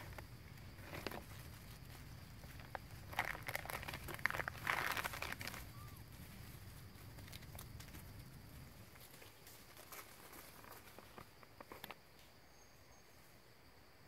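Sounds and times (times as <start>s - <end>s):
dry leaves crackling and rustling: 0.0s - 11.3s.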